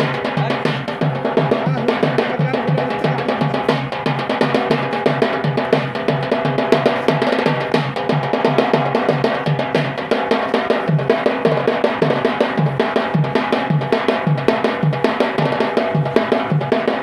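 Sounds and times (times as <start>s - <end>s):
low pitched drum beat: 0.0s - 17.0s
sharp drum strokes: 0.0s - 17.0s.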